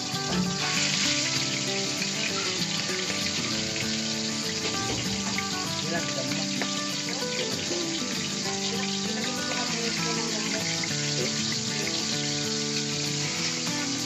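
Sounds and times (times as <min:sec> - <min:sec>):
background music: 0:00.0 - 0:14.0
fish frying in hot oil: 0:00.0 - 0:14.0.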